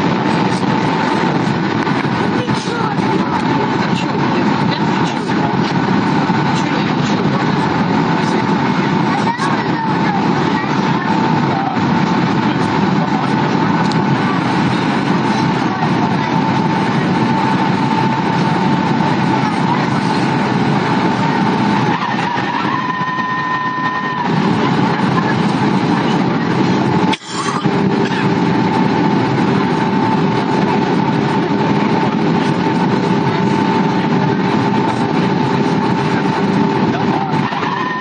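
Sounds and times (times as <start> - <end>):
rush of jet engines and airflow: 0.0 - 38.0
thin whine: 0.0 - 38.0.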